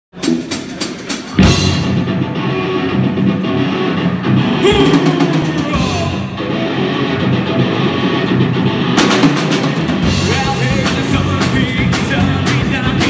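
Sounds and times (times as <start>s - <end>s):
rock band playing: 0.2s - 13.0s.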